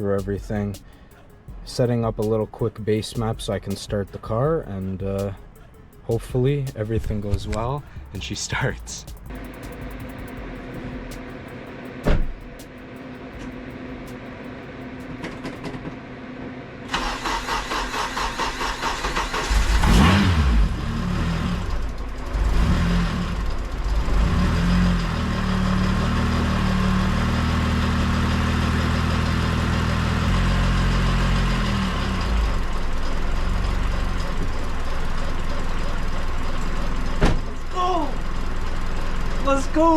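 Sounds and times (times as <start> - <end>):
car engine idling: 0.0 - 39.9
car engine cranking and revving: 3.2 - 39.9.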